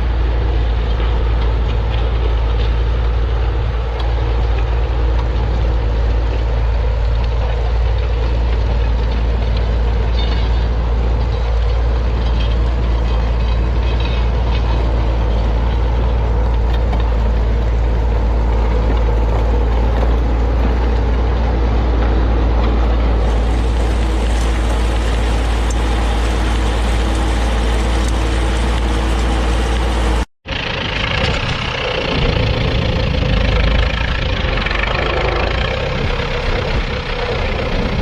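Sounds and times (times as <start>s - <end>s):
tractor diesel engine droning: 0.0s - 38.0s.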